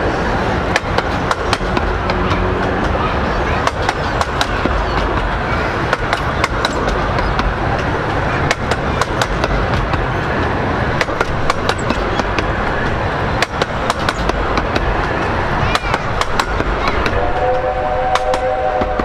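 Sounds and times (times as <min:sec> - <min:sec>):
train wheels rumbling on rails: 0:00.0 - 0:19.0
wheels clicking over track: 0:00.0 - 0:19.0.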